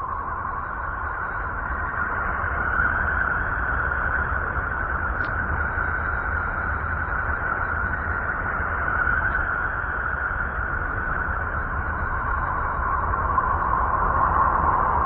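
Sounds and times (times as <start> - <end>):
low rumble: 0.0 - 15.0
steady rushing noise: 0.0 - 15.0.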